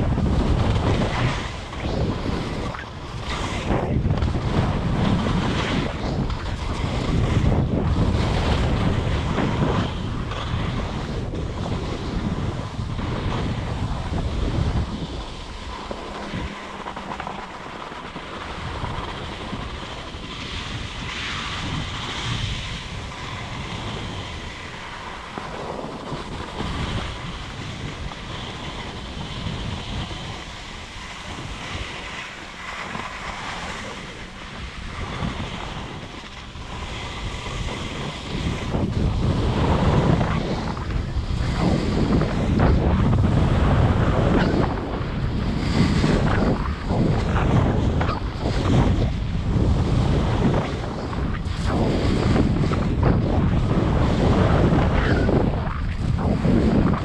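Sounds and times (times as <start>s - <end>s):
skis sliding over snow: 0.0s - 57.0s
wind rushing over microphone: 0.0s - 57.0s.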